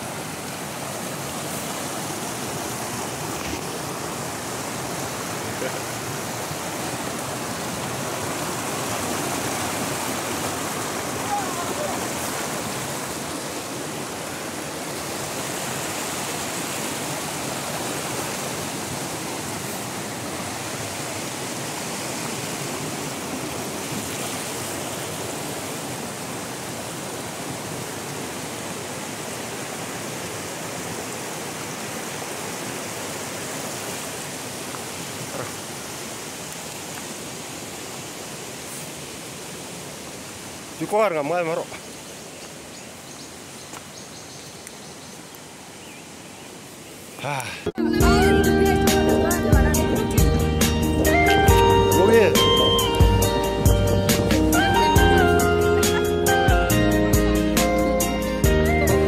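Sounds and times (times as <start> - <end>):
stream water rushing over rocks: 0.0 - 59.0.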